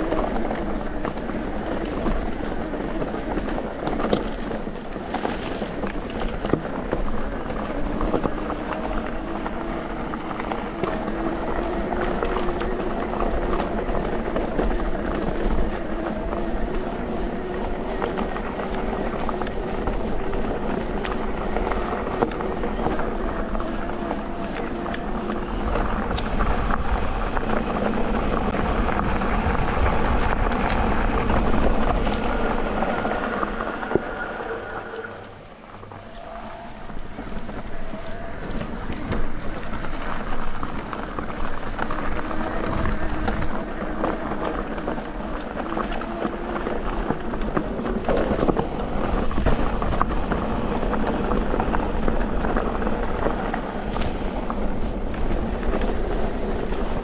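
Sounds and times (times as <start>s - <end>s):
bike rattling: 0.0s - 57.0s
electric bike motor whine: 0.0s - 57.0s
tyre rumble on dirt: 0.0s - 57.0s.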